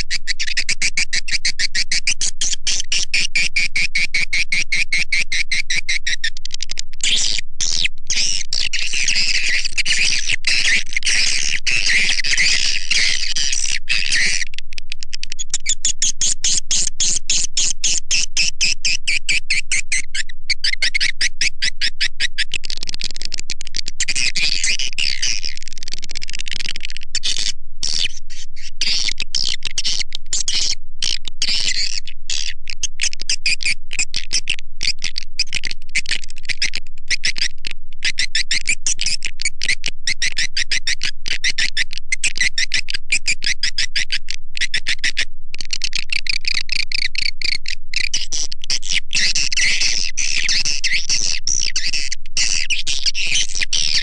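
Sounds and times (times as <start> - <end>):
rapid high twittering chirps: 0.0 - 14.5, 15.3 - 23.4, 24.0 - 54.0.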